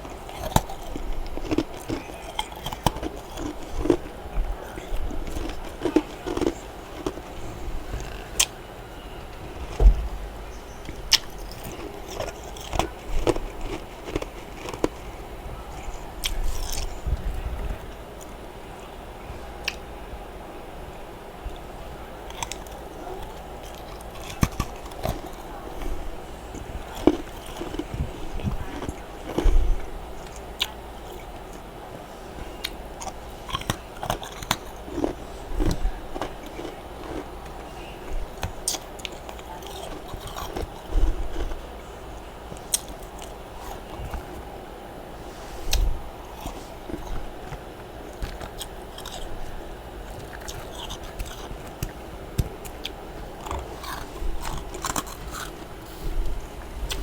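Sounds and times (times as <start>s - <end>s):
chewing crunchy frost: 0.0s - 20.2s, 21.4s - 57.0s.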